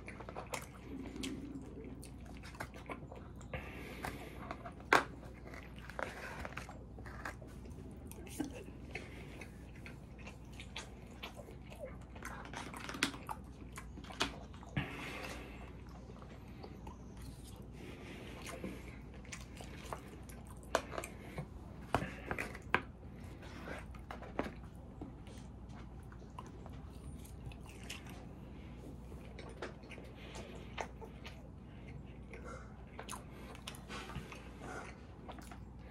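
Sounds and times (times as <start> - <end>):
person chewing and eating: 0.0 - 35.9.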